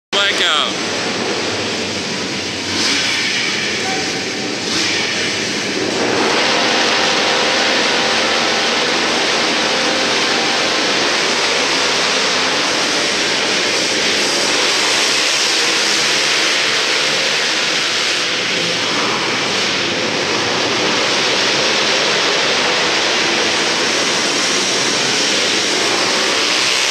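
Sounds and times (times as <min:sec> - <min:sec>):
quad engines revving: 0:00.2 - 0:26.9.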